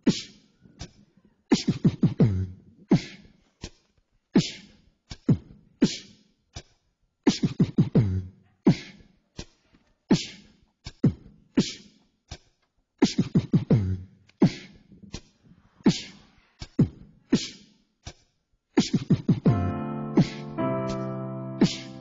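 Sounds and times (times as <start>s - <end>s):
beatboxing: 0.0s - 19.6s.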